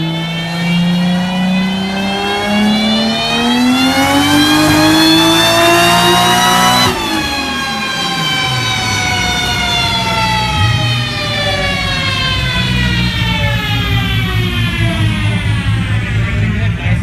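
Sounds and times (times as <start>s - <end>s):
turbocharged car engine revving: 0.0s - 17.0s.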